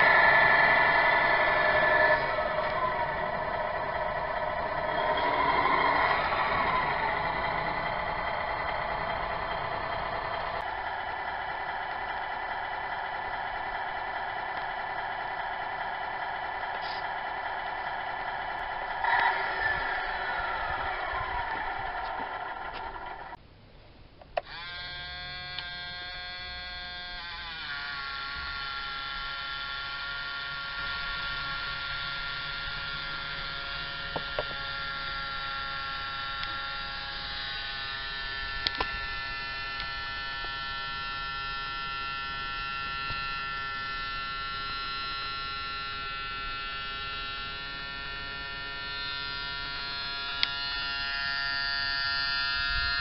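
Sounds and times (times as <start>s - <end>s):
electric water pump whining: 0.0s - 23.4s, 24.4s - 53.0s.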